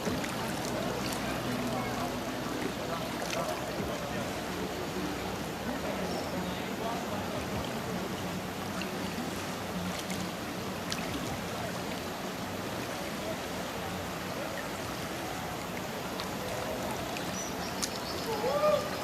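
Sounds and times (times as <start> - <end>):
faint distant voices: 0.0 - 19.0
river water rushing and lapping: 0.0 - 19.0.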